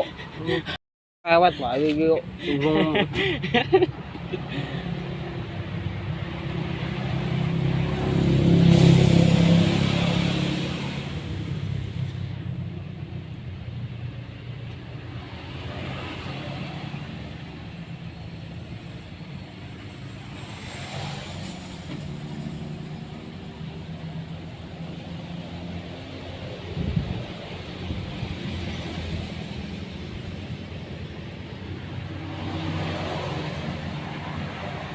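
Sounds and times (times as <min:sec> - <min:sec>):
vehicles passing: 0:00.0 - 0:34.9.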